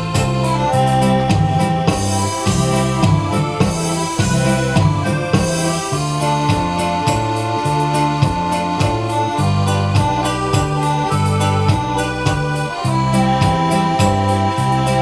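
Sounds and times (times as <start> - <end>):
electronic keyboard melody: 0.0 - 15.0
repeating bass notes: 0.0 - 15.0
steady percussion beat: 0.0 - 15.0.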